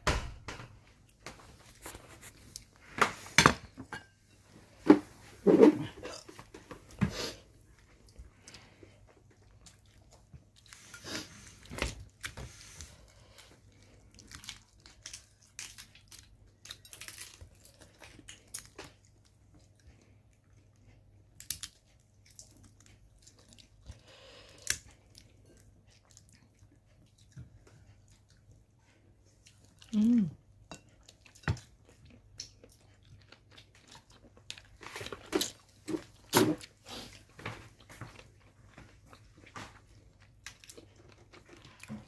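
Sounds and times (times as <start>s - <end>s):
wet chewing and crunching: 7.6s - 42.0s.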